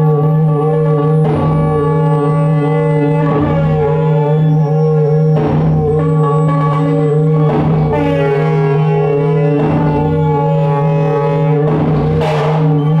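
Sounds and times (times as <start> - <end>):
low electronic drone: 0.0 - 13.0
noisy percussive hit: 0.7 - 13.0.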